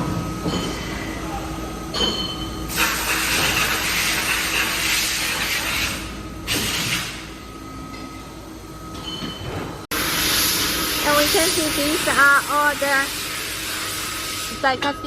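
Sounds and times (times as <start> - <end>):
milling machine hum and whine: 0.0 - 15.0.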